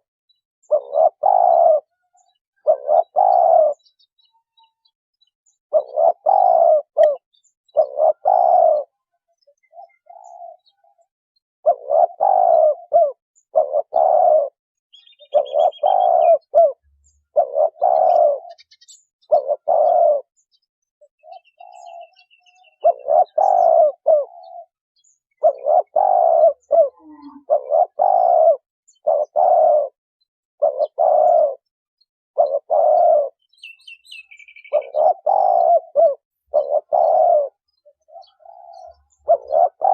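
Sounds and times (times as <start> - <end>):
dove cooing: 0.0 - 4.1, 5.7 - 20.3, 21.1 - 31.7, 32.4 - 39.9
faint high bird chirps: 0.0 - 39.9.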